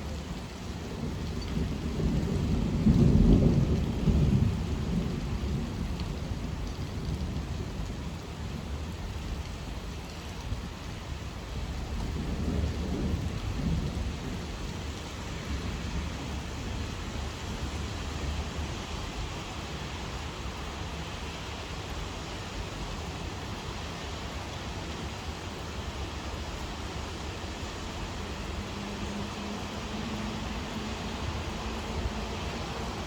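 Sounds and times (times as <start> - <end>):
heavy rain: 0.0 - 33.0
low rumble of thunder: 0.0 - 33.0.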